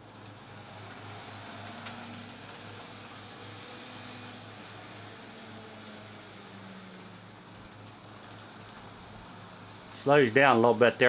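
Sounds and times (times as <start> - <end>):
model train motor whirring: 0.0 - 11.0
steady hiss and low hum: 0.0 - 11.0
wheels rolling on track: 0.0 - 11.0.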